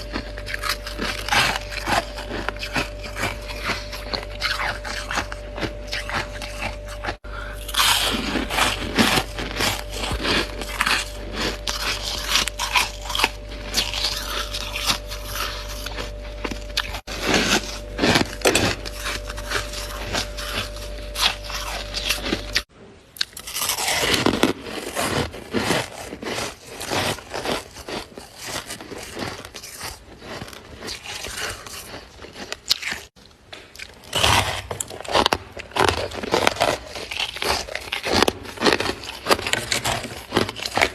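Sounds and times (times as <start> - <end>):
frost crunching as chewed: 0.0 - 40.9
steady low hum: 0.0 - 40.9.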